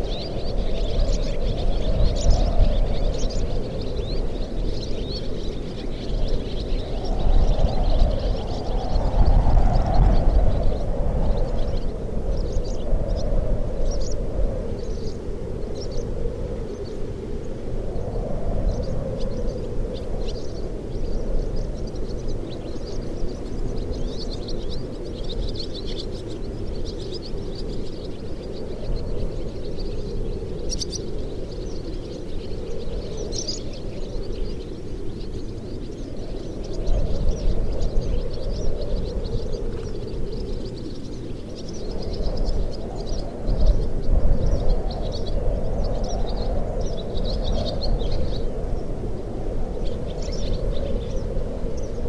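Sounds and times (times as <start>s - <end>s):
swallows chirping: 0.0s - 14.2s, 18.7s - 49.0s, 49.8s - 52.0s
wind rumble: 0.0s - 52.0s
wind whistling moan: 0.0s - 52.0s.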